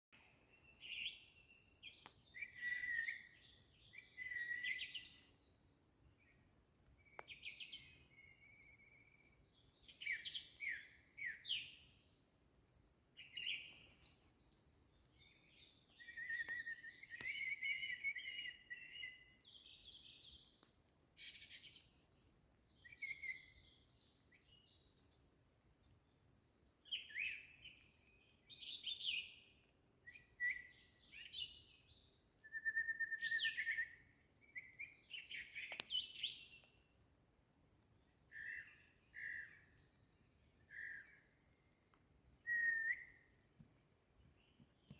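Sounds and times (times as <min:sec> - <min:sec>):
nightingale singing: 0:00.2 - 0:12.4, 0:13.2 - 0:20.6, 0:21.2 - 0:37.0, 0:38.0 - 0:43.5.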